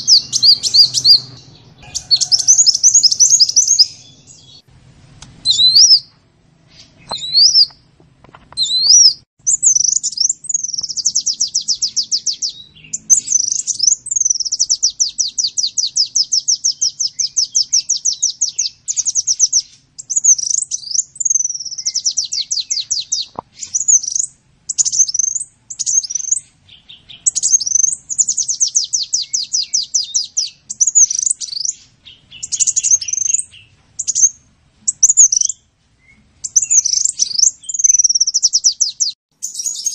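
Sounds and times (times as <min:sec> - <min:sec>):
sunbird chirps and trills: 0:00.0 - 0:04.7, 0:05.4 - 0:07.8, 0:08.6 - 0:39.9.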